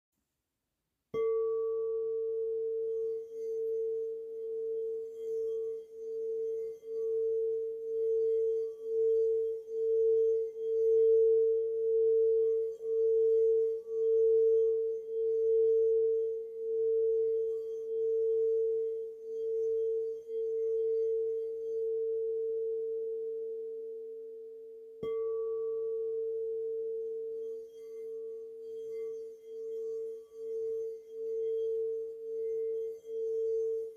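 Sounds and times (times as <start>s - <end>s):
singing bowl ringing: 1.1s - 33.9s.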